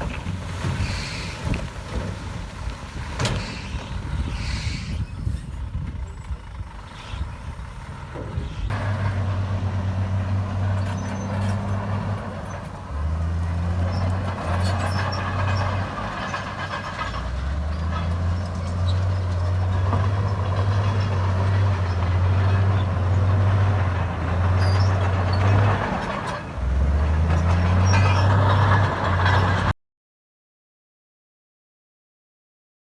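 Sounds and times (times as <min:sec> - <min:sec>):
heavy diesel engine running: 0:00.0 - 0:29.7.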